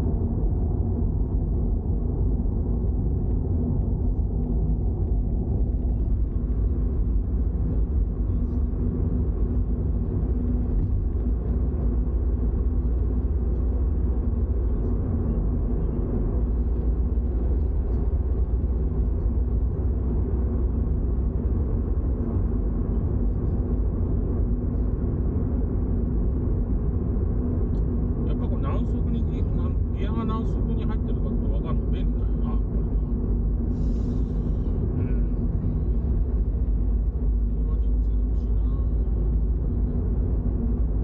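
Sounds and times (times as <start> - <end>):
car engine and road noise: 0.0 - 41.0
faint steady hum: 0.0 - 41.0.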